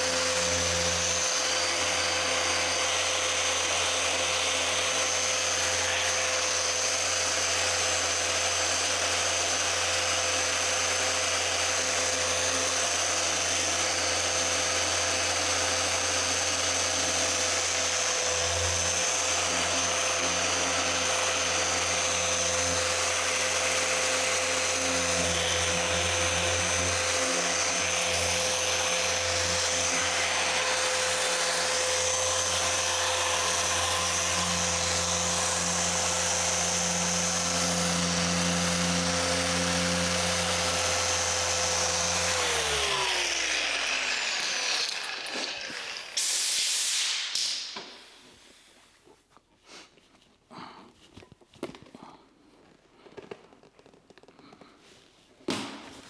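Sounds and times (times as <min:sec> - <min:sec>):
electric machine polisher running: 0:00.0 - 0:47.5.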